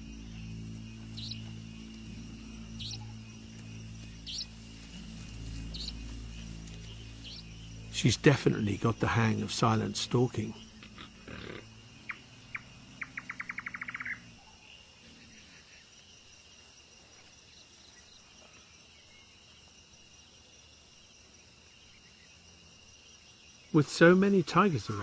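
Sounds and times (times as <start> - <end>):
night insect chorus: 0.0 - 25.0.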